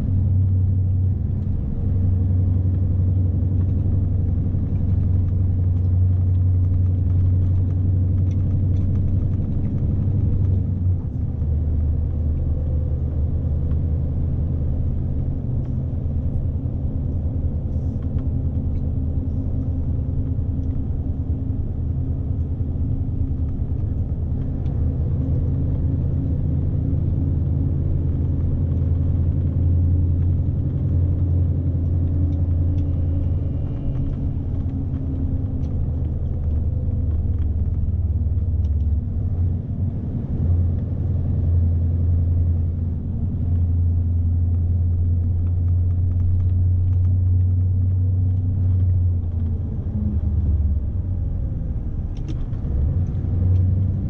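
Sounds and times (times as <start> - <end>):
road noise: 0.0 - 54.0
truck diesel engine rumble: 0.0 - 54.0.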